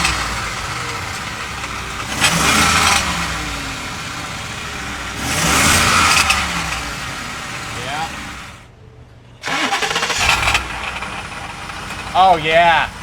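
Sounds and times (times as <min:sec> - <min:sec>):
car engine idling and revving: 0:00.0 - 0:08.8, 0:09.4 - 0:13.0.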